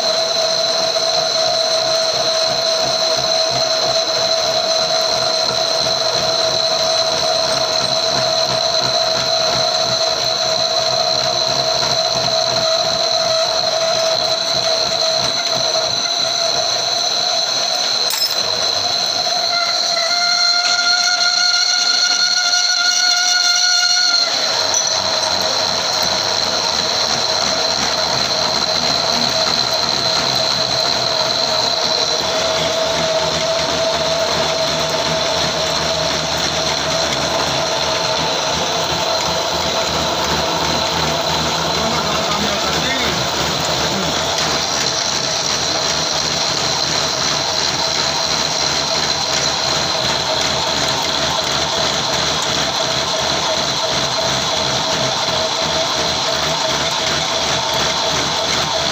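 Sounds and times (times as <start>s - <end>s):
high whistling tone: 0.0s - 58.9s
lathe boring metal: 0.0s - 58.9s.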